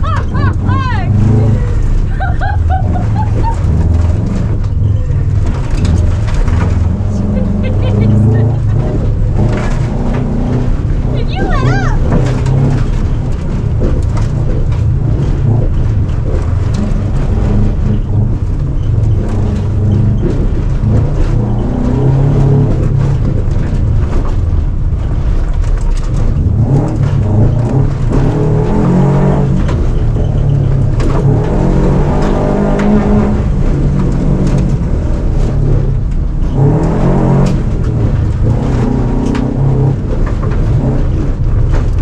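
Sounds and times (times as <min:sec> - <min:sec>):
knocks and rattles: 0:00.0 - 0:42.0
rally car engine revving: 0:00.0 - 0:42.0.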